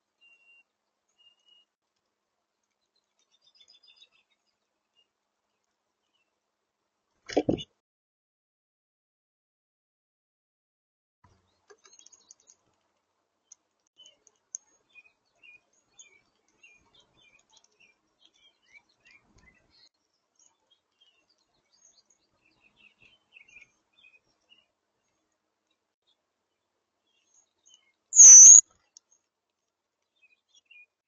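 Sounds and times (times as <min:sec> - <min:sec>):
small songbirds chirping: 0:00.0 - 0:06.4, 0:11.3 - 0:12.8, 0:13.4 - 0:29.4, 0:30.0 - 0:31.0.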